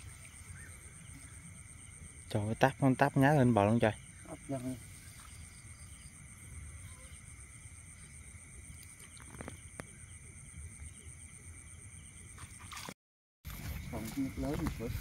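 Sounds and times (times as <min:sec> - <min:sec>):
insects trilling: 0:00.0 - 0:12.9, 0:13.5 - 0:15.0.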